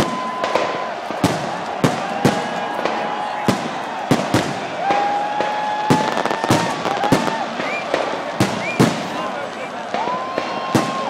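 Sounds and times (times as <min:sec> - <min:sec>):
fireworks whistles: 0:00.0 - 0:09.4, 0:10.0 - 0:11.0
fireworks shells bursting: 0:00.0 - 0:11.0.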